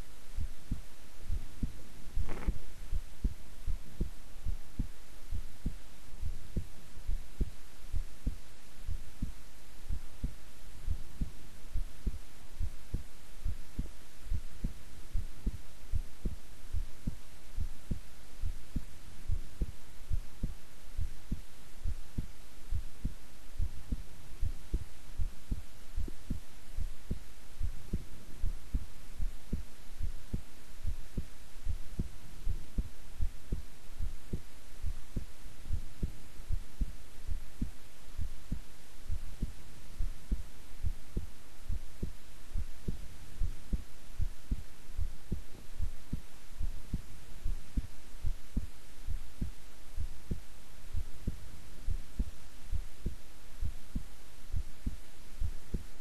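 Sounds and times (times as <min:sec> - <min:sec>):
heartbeat thumps: 0:00.3 - 0:56.0.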